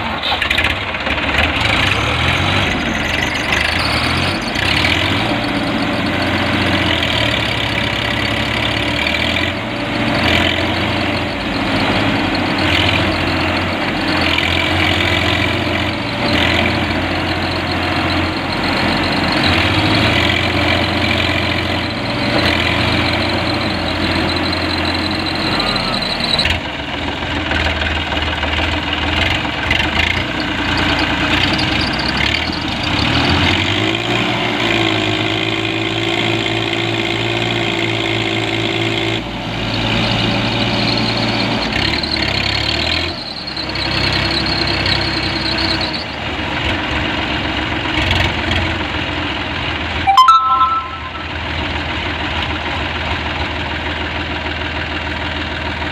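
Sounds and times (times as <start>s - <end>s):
diesel tractor engines running: 0.0s - 50.0s, 51.5s - 55.9s.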